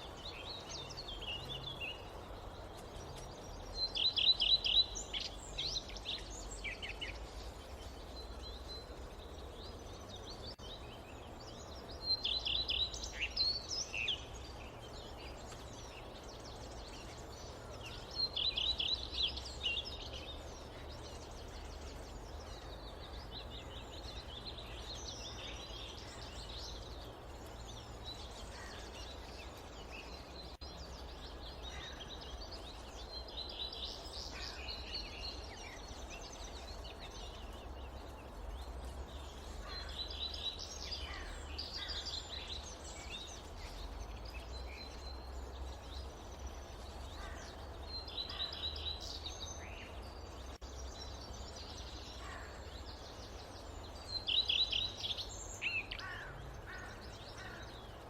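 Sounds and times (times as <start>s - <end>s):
birds chirping: 0.0s - 58.0s
low wind rumble: 0.0s - 58.0s.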